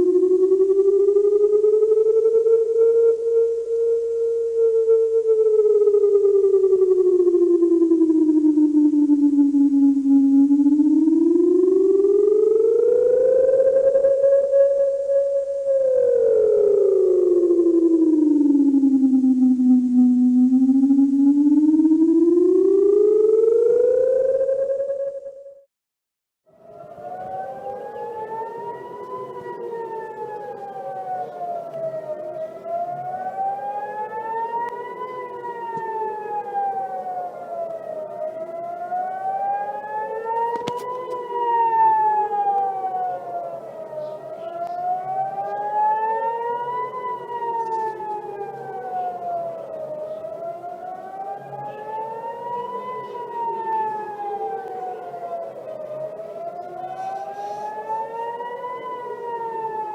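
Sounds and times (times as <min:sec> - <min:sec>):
air-raid sirens wailing: 0:00.0 - 0:25.6, 0:26.5 - 0:59.9.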